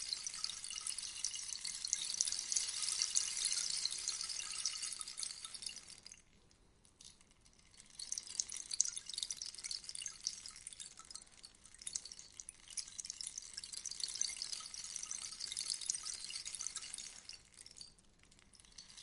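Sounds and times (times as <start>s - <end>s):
rainstick pellets trickling: 0.0s - 19.0s.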